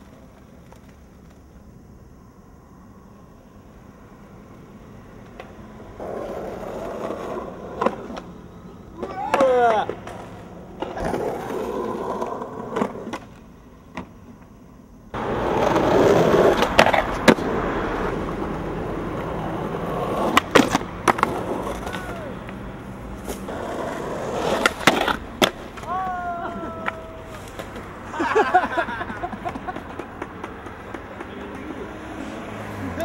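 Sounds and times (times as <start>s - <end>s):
skateboard clacks: 0.0s - 1.9s, 5.1s - 33.0s
skateboard wheels rolling on concrete: 0.0s - 33.0s.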